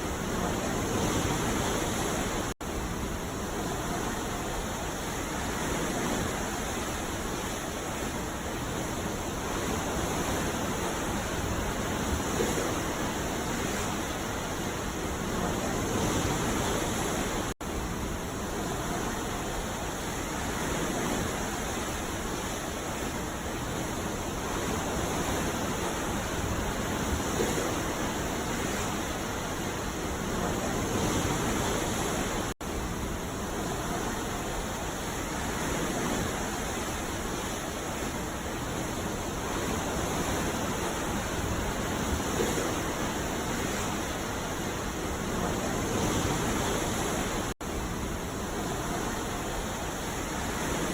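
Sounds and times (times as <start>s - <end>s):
ocean surf on a beach: 0.0s - 50.9s.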